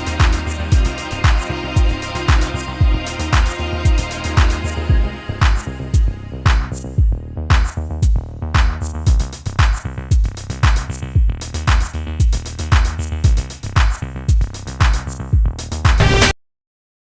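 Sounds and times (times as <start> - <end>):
electronic music with drum-machine beat: 0.0 - 16.3.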